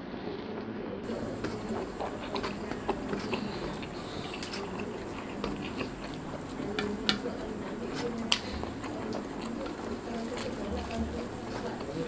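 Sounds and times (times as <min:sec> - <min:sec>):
man chewing with mouth clicks: 0:01.0 - 0:12.0.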